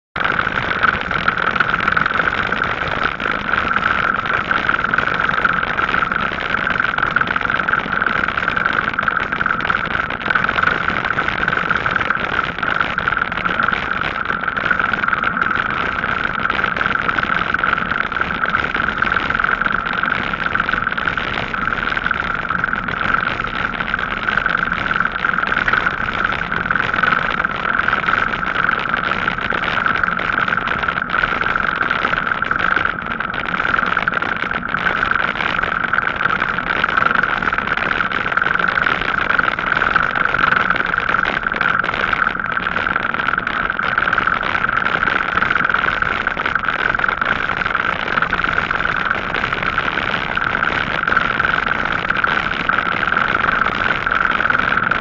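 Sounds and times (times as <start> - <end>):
bicycle tyre noise on tarmac: 0.2 - 55.0
constant hum: 0.2 - 55.0.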